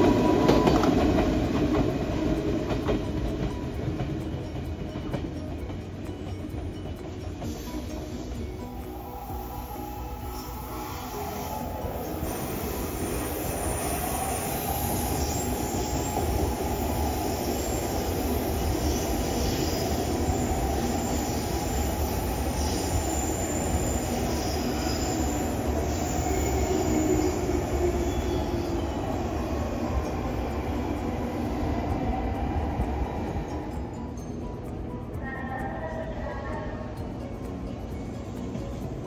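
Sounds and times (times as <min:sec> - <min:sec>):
train wheels squealing: 0:00.0 - 0:37.0
train rumbling past: 0:00.0 - 0:39.0.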